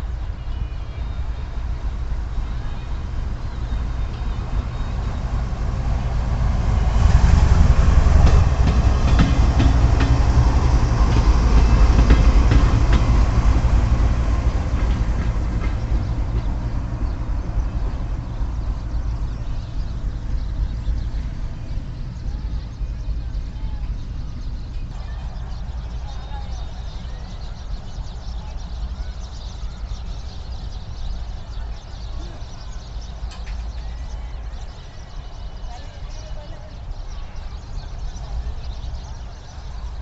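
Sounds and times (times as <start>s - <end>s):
train passing: 0.0s - 40.0s.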